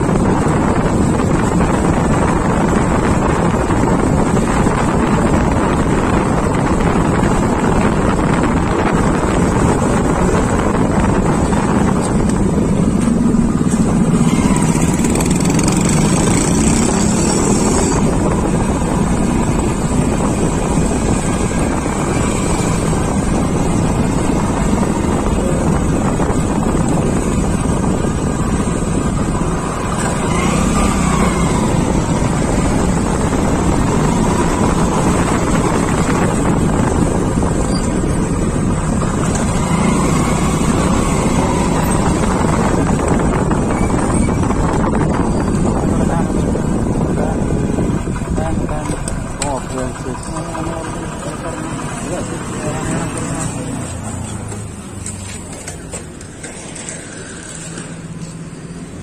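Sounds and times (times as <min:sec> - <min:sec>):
wind on microphone: 0:00.0 - 0:58.8
motorbike engine running: 0:00.0 - 0:59.0
traffic: 0:00.0 - 0:59.0.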